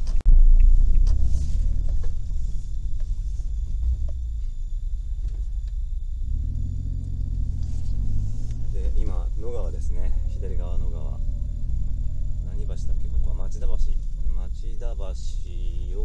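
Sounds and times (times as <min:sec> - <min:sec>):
car engine and road rumble: 0:00.0 - 0:16.0
steady engine hum: 0:00.0 - 0:16.0.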